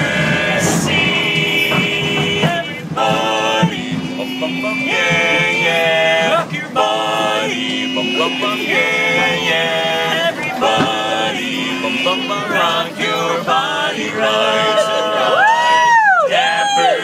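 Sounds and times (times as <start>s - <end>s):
men singing in close harmony: 0.0s - 17.0s.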